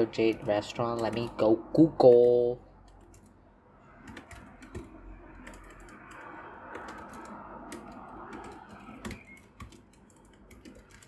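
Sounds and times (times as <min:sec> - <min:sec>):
computer keyboard typing: 0:00.0 - 0:11.0.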